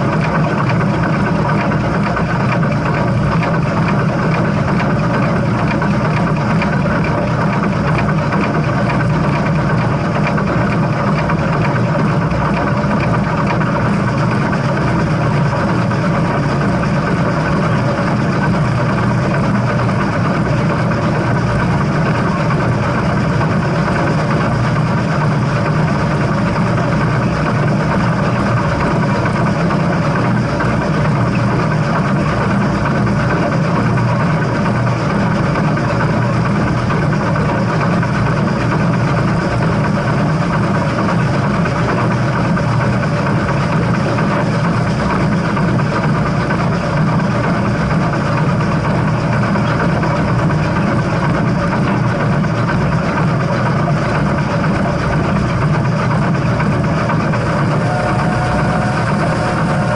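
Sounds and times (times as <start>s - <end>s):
steam train rumbling and rattling: 0.0s - 59.9s.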